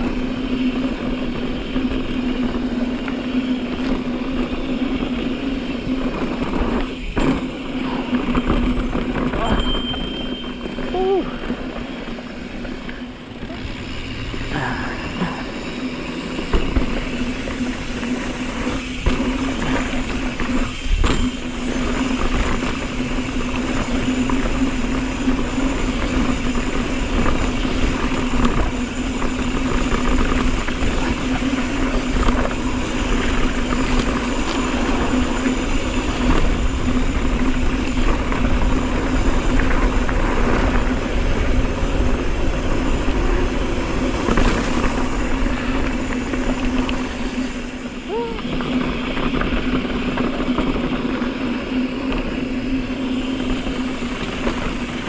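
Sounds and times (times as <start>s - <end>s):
bike tyres on dirt: 0.0s - 55.0s
wind on microphone: 0.0s - 55.0s.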